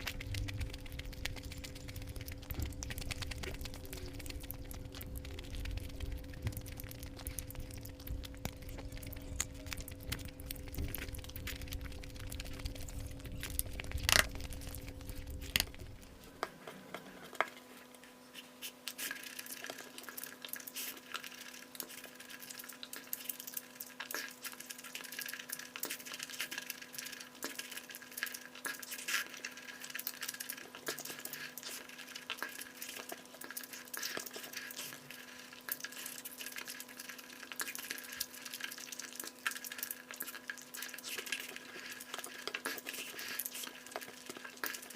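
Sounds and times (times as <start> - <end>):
eating and chewing sounds: 0.0 - 44.9
faint steady hum: 0.0 - 44.9.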